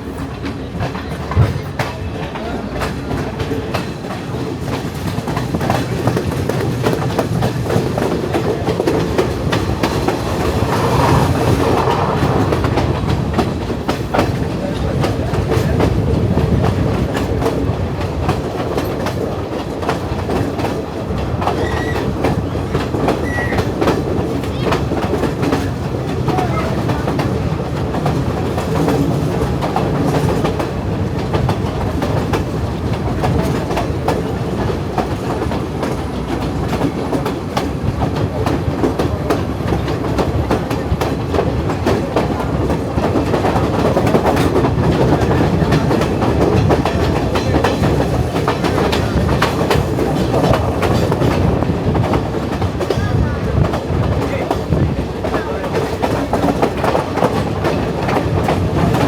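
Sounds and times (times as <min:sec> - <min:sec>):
train rumble: 0:00.0 - 0:59.0
wheels clicking over rail joints: 0:00.1 - 0:59.0.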